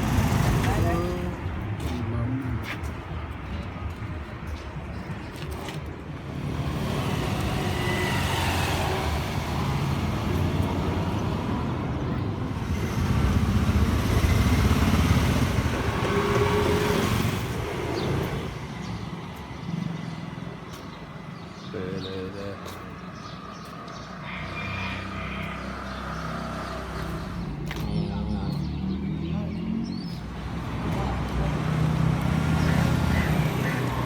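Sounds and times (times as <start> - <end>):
traffic rumbling past: 0.0 - 34.0.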